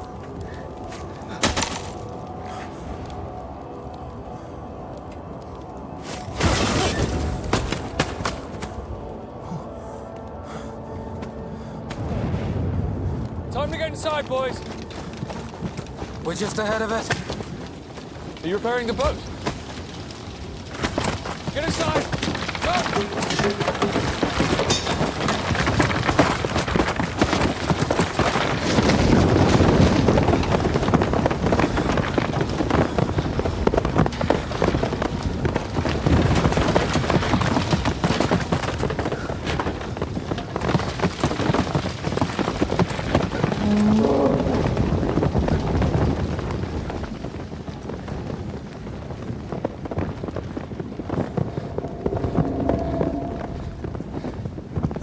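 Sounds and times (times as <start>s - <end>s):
hailstones pelting tents: 0.0s - 55.0s.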